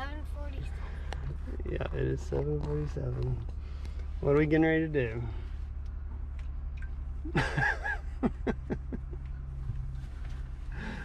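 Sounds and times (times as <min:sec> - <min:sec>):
vehicle engine hum inside cabin: 0:00.0 - 0:11.0.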